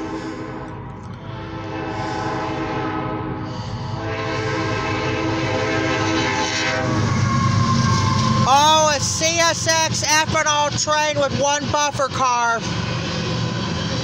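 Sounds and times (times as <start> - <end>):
locomotive air horn: 0.0 - 12.0.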